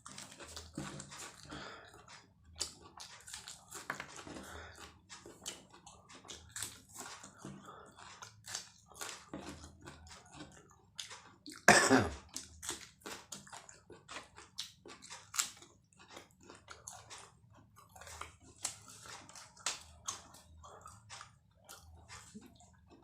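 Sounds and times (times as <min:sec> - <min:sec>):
mouth chewing food: 0:00.0 - 0:23.0.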